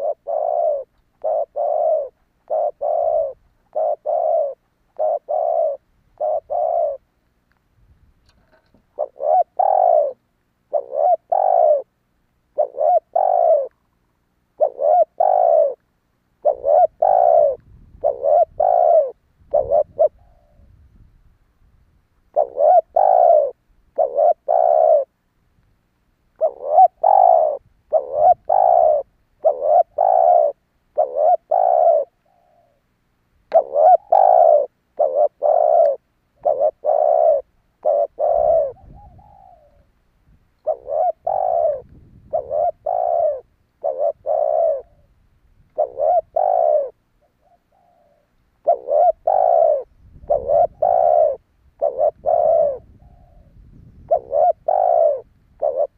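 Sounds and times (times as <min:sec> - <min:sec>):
dove cooing: 0:00.0 - 0:07.1, 0:08.4 - 0:13.8, 0:14.5 - 0:15.8, 0:16.4 - 0:20.8, 0:22.3 - 0:25.2, 0:26.4 - 0:32.8, 0:33.5 - 0:40.0, 0:40.6 - 0:55.9.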